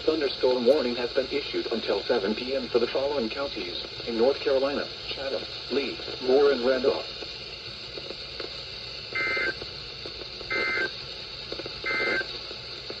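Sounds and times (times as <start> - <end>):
faint radio hiss with crackle: 0.0 - 13.0.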